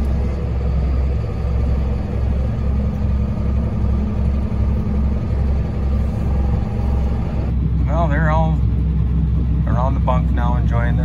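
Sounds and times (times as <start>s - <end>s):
feed mixer and tractor droning: 0.0s - 11.0s.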